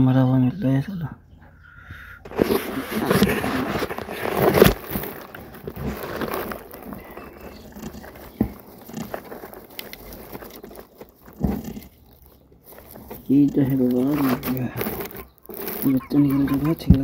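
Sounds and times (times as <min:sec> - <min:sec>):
dry straw rustling and crackling: 0:02.3 - 0:17.0.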